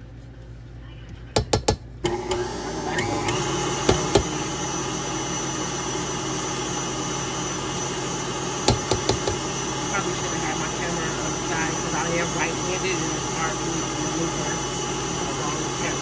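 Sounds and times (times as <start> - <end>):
stand mixer motor: 2.0 - 16.0.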